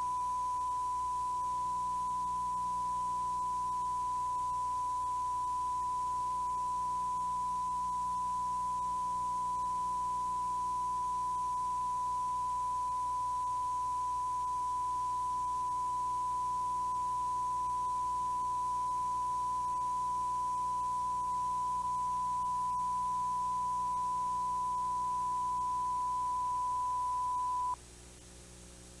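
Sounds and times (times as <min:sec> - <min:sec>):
steady pure test tone: 0:00.0 - 0:27.8
faint low hum: 0:00.0 - 0:29.0.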